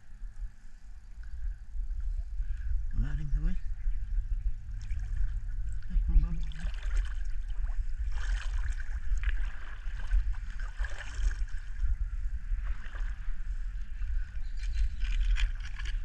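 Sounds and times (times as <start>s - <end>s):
strong low rumble: 0.0s - 16.0s.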